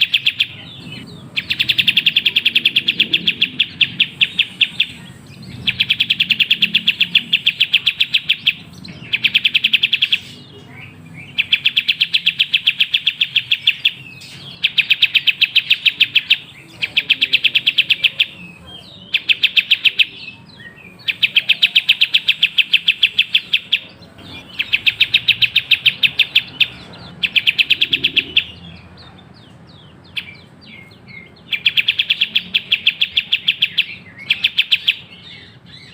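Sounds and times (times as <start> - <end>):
songbird rapid trill: 0.0 - 29.3, 29.9 - 35.9
bird chirps: 0.0 - 35.9.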